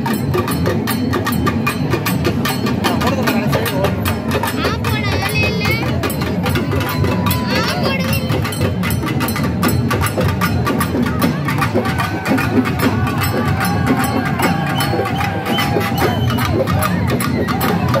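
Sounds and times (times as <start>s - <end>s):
barrel drums beating rapidly: 0.0s - 18.0s
crowd voices and shouts: 0.0s - 18.0s.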